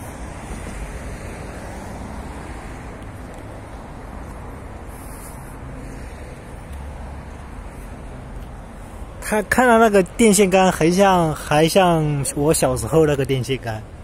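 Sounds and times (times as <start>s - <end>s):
distant road traffic hum: 0.0s - 14.0s.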